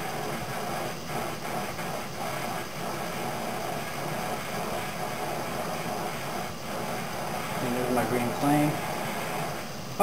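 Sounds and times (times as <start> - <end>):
propane torch hissing: 0.0 - 10.0.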